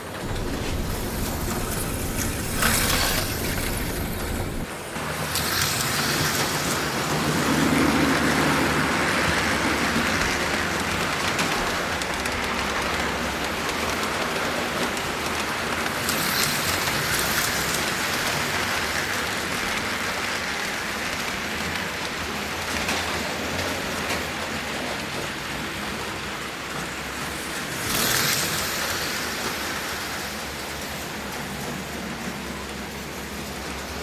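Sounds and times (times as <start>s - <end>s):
slot cars whirring on track: 0.0s - 34.0s.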